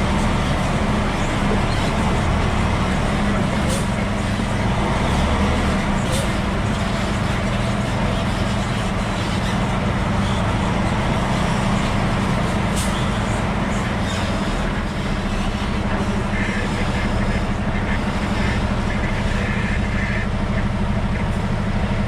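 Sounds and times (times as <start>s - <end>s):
diesel truck engine droning: 0.0s - 22.0s.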